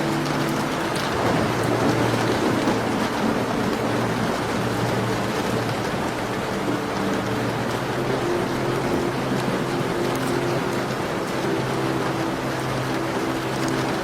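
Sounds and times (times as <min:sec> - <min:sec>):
low thunder rumble: 0:00.0 - 0:13.0
faint fireplace crackles: 0:00.0 - 0:14.0
rain tapping on a window: 0:00.0 - 0:14.0.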